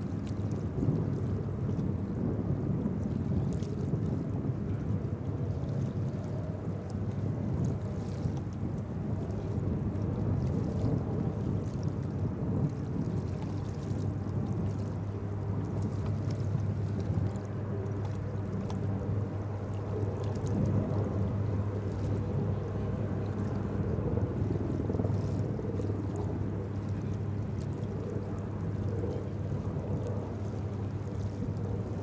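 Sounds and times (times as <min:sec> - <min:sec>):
boat engines droning: 0:00.0 - 0:32.0.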